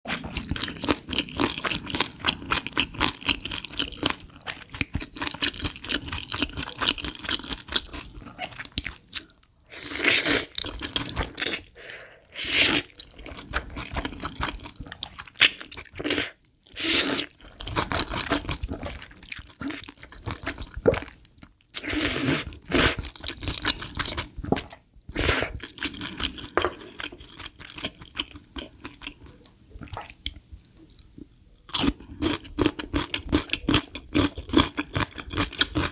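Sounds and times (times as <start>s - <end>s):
person chewing and crunching: 0.1s - 11.8s, 12.4s - 21.9s, 22.5s - 35.9s.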